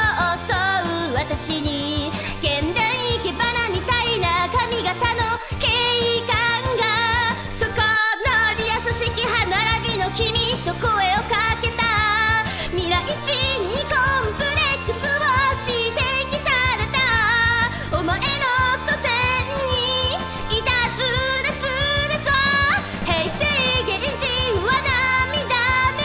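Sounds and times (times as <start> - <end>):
instrumental backing track: 0.0 - 26.0
woman singing pop song: 0.0 - 26.0.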